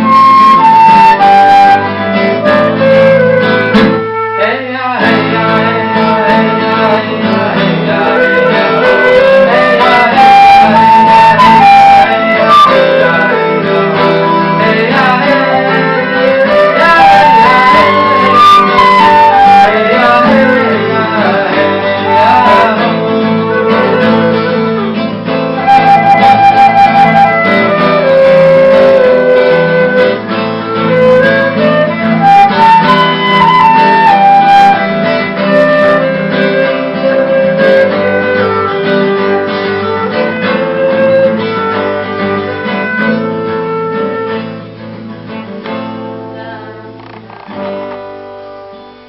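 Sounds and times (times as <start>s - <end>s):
guitar playing chords: 0.0s - 49.0s
sliding held melody notes: 0.0s - 49.0s.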